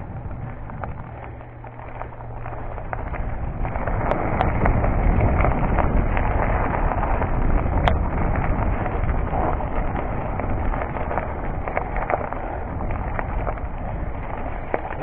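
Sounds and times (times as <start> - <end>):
bike tyres crunching on gravel: 0.0 - 15.0
wind rumbling on microphone: 0.0 - 15.0.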